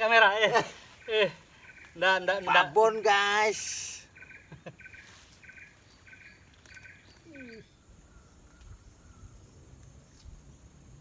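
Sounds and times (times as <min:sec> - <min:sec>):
bird calling: 0:00.0 - 0:10.3.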